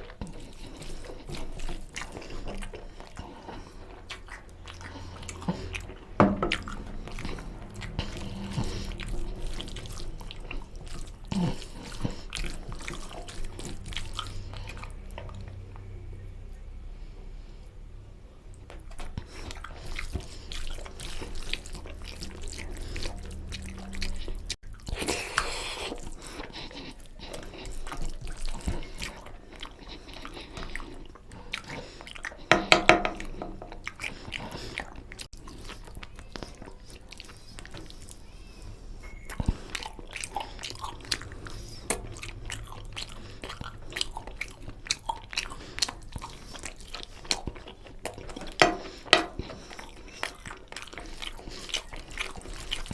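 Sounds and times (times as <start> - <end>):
wet chewing and lip smacks: 0.0 - 16.2, 18.5 - 52.9.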